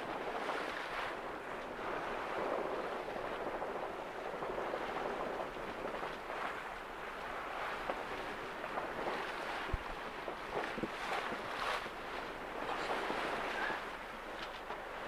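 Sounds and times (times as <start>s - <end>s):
water rushing past a hull: 0.0s - 15.0s
wind: 0.0s - 15.0s.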